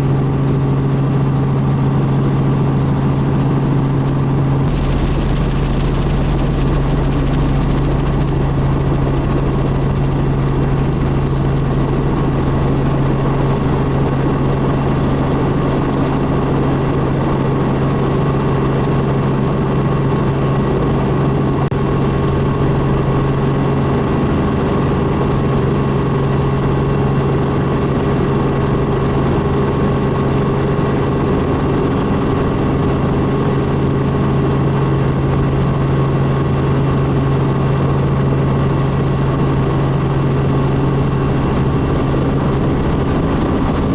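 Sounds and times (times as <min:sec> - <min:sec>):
helicopter droning in cruise: 0:00.0 - 0:43.9.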